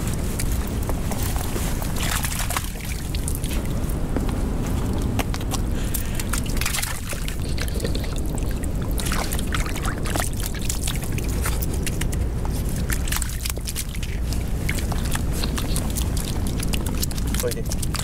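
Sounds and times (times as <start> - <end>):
steady low rumble: 0.0 - 18.0
water sloshing and splashing: 0.0 - 18.0.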